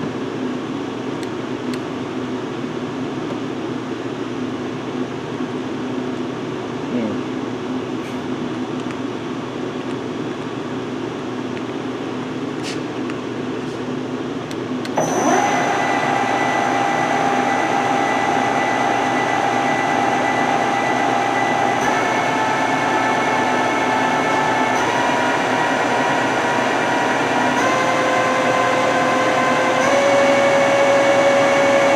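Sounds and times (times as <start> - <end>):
lathe mechanical hum and whine: 0.0 - 31.9.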